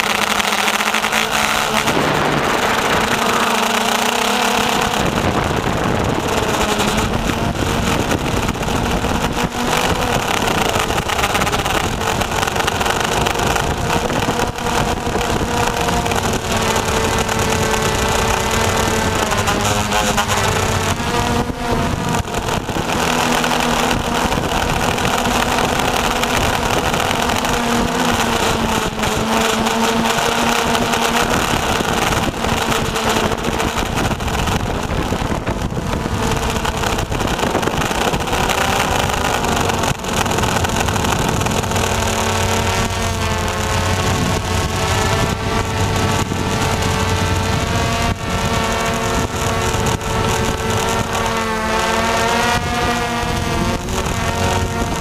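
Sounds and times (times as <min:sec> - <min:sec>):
drone propellers buzzing: 0:00.0 - 0:55.0.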